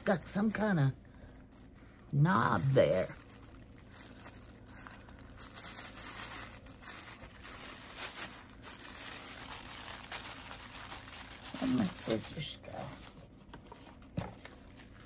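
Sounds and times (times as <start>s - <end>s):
packaging crinkling and rustling: 0.0s - 15.0s
small crackles and rips: 0.0s - 15.0s.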